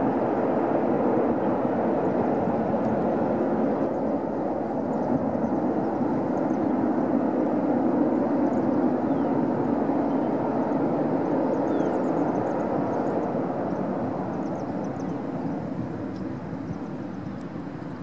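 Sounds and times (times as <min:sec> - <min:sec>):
jet engines rumbling and whining: 0:00.0 - 0:18.0.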